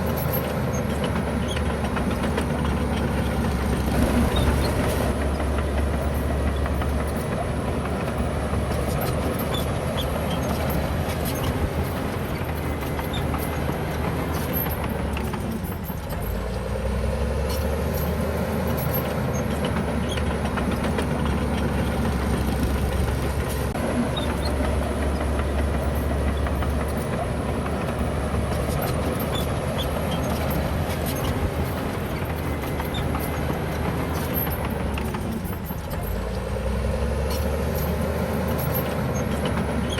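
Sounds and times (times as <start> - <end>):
diesel machinery running under load: 0.0 - 39.9.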